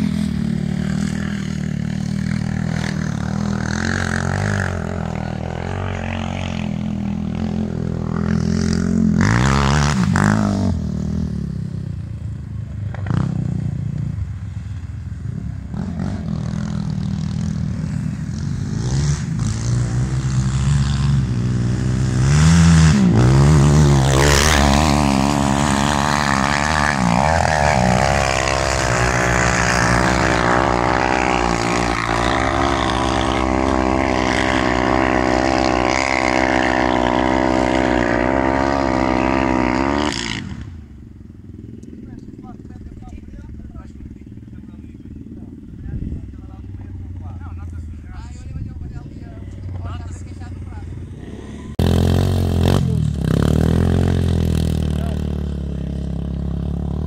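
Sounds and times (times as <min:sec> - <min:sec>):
quad bike engines revving: 0:00.0 - 0:57.0.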